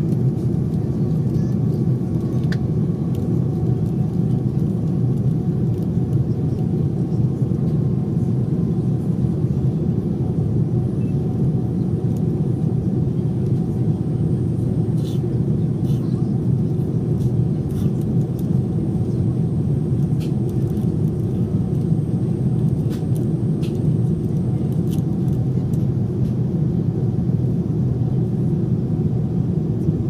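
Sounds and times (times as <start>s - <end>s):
airliner cabin roar: 0.0s - 30.0s.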